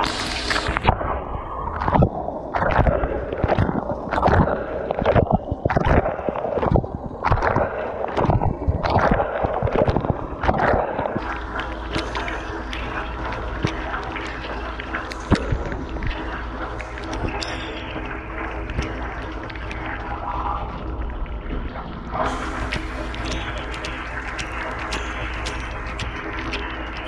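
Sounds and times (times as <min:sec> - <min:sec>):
water jets splashing: 0:00.0 - 0:27.0.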